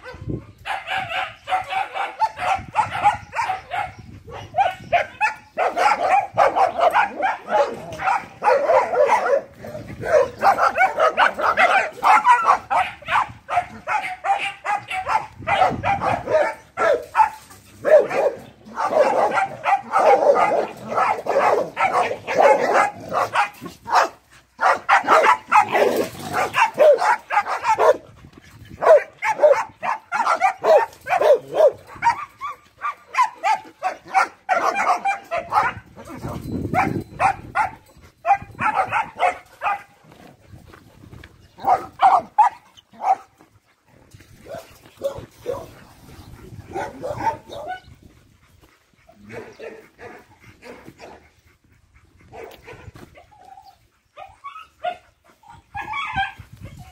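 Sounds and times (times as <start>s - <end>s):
dogs barking: 0.0s - 40.4s, 41.5s - 56.9s.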